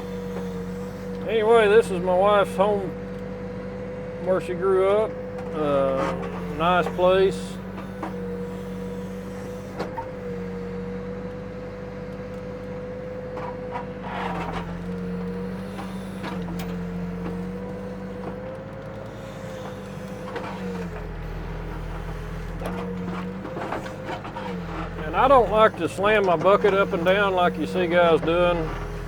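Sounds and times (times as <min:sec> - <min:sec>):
clunks: 0:00.0 - 0:03.3, 0:04.2 - 0:11.4, 0:12.1 - 0:29.0
diesel engine running: 0:00.0 - 0:29.0.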